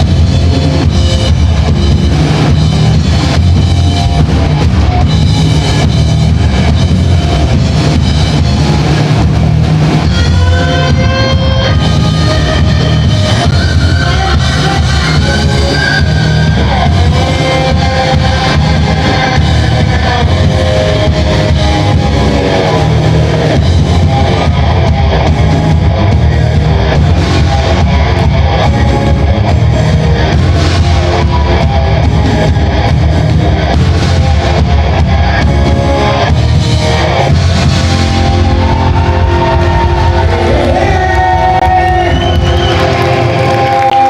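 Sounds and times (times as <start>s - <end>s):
electric guitar: 0.0s - 44.0s
rock band playing live: 0.0s - 44.0s.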